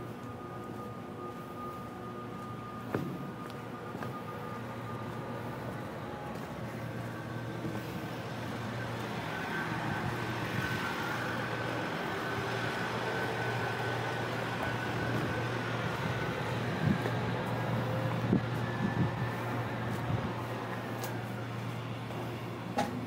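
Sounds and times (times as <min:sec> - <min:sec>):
ship machinery humming: 0:00.0 - 0:23.0.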